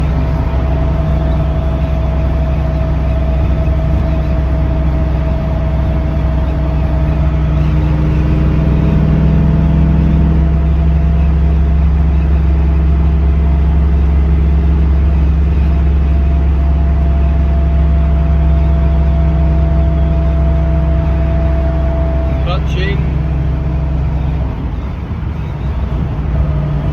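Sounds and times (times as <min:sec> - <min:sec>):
low engine rumble: 0:00.0 - 0:26.9
steady whine: 0:00.0 - 0:26.9.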